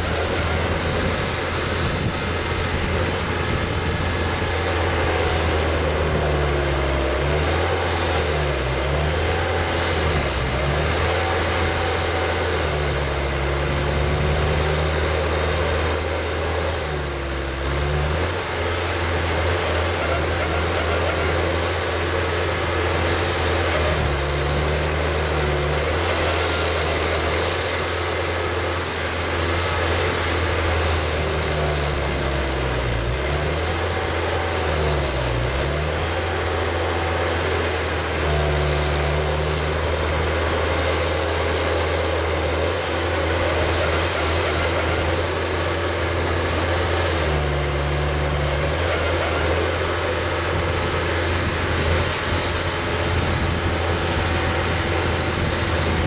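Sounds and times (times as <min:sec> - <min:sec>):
truck engine running under load: 0:00.0 - 0:56.0.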